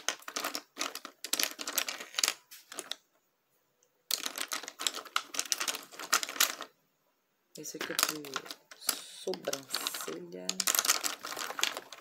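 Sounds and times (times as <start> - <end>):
makeup brushes clattering: 0.0 - 3.0, 4.1 - 6.7, 7.6 - 12.0.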